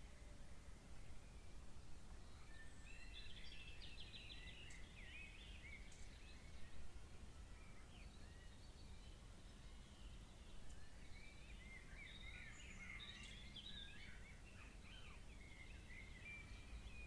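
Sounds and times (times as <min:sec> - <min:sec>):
faint bird song: 0:00.0 - 0:17.0.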